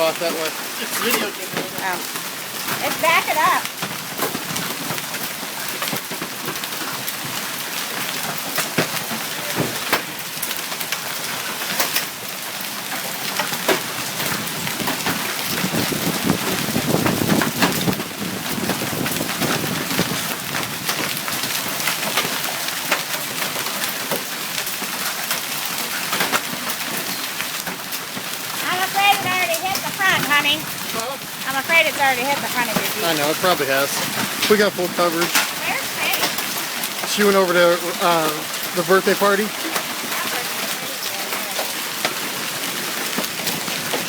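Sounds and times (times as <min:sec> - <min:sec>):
hail and rain clattering: 0:00.0 - 0:44.0.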